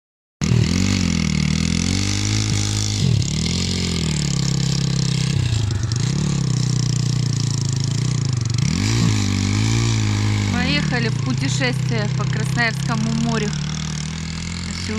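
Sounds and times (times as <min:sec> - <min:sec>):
motorcycle engine revving: 0:00.4 - 0:14.9.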